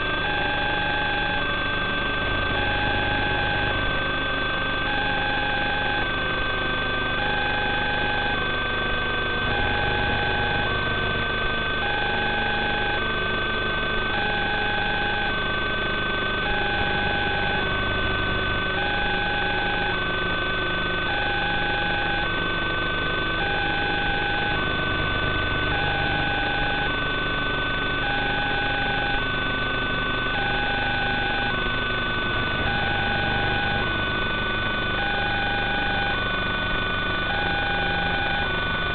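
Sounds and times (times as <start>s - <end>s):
electronic hum and hiss: 0.0s - 38.9s.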